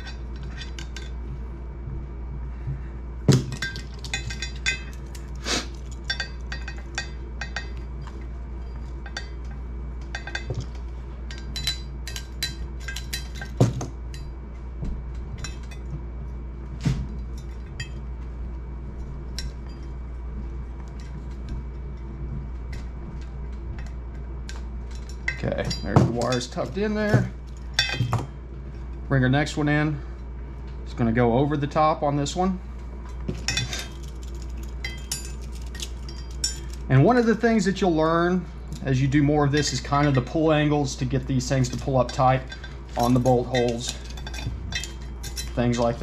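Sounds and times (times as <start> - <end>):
wire and tools clinking on metal: 0.0 - 1.3, 3.4 - 14.4, 15.0 - 16.4, 17.1 - 30.3, 30.9 - 46.0
steady low hum: 0.0 - 46.0.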